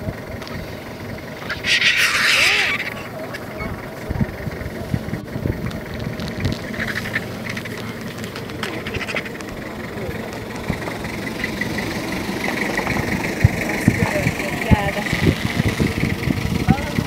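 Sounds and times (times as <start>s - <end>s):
low steady rumble: 0.0s - 17.0s
vultures chattering calls: 0.0s - 17.0s.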